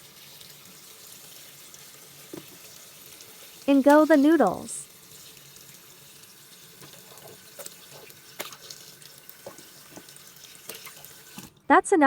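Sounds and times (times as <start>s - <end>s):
tap running into basin: 0.1s - 11.6s.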